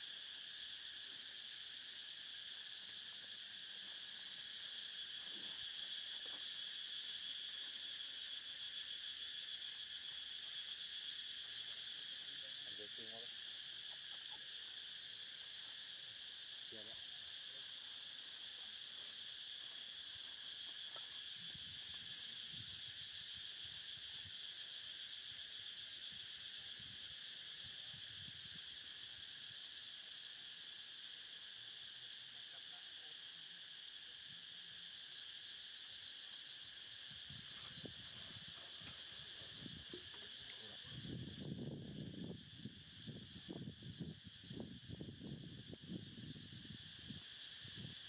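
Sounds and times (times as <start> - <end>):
insect chorus: 0.0 - 48.0.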